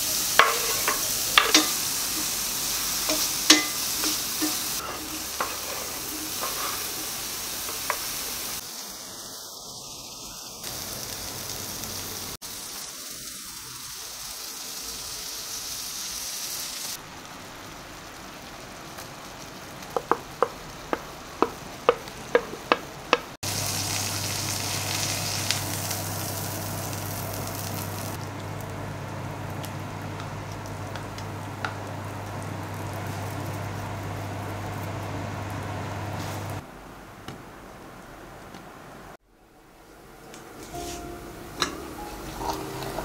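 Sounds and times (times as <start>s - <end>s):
food sizzling in a pan: 0.0s - 36.6s, 40.7s - 43.0s.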